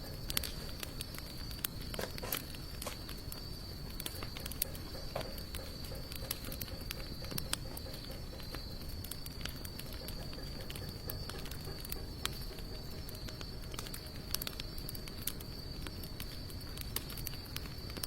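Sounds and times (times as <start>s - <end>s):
high-pitched insect trill: 0.0s - 17.9s
wood fire crackling and popping: 0.0s - 18.0s.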